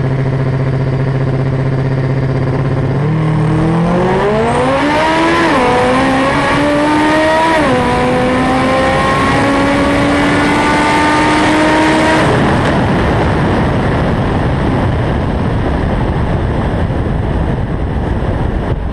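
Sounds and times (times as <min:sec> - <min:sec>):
car engine at full throttle: 0:00.0 - 0:18.9
wind and road noise: 0:00.0 - 0:18.9.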